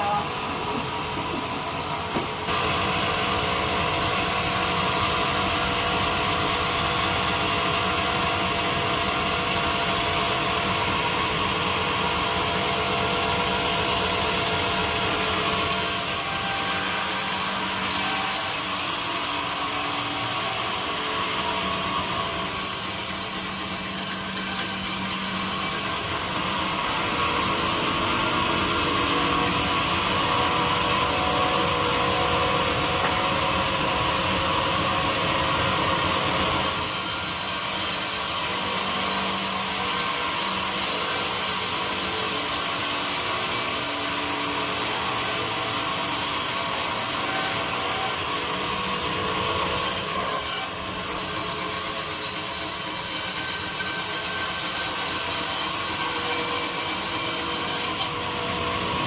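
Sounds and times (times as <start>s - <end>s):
power tool grinding wood: 9.4s - 59.0s.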